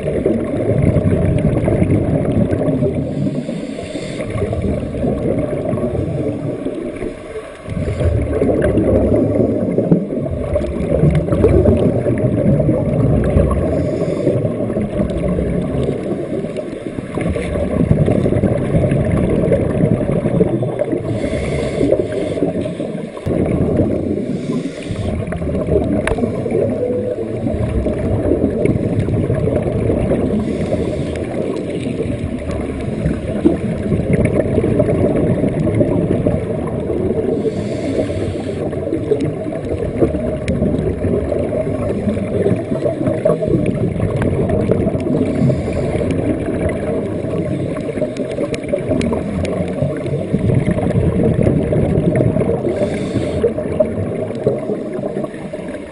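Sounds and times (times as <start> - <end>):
underwater air bubbles gurgling: 0.0 - 55.9.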